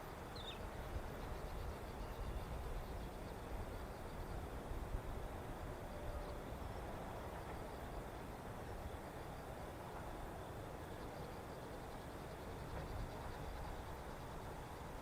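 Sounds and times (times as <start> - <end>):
insects chirping: 0.0 - 15.0
steady hiss: 0.0 - 15.0.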